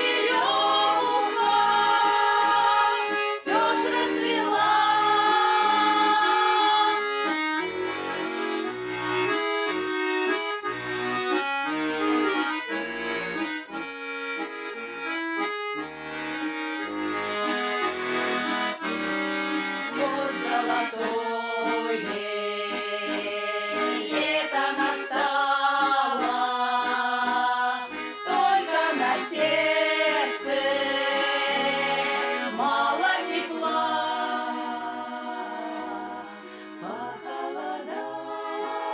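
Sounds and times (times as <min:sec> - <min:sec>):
accordion playing folk tune: 0:00.0 - 0:38.9.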